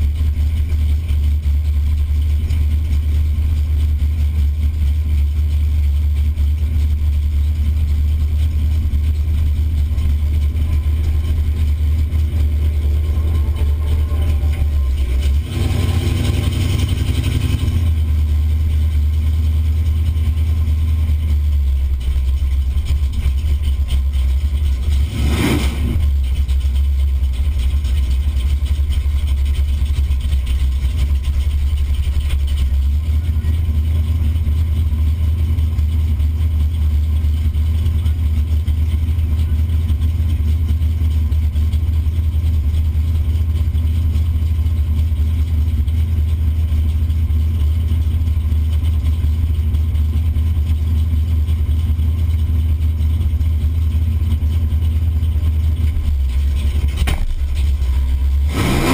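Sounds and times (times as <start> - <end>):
car engine idling low rumble: 0.0 - 58.9.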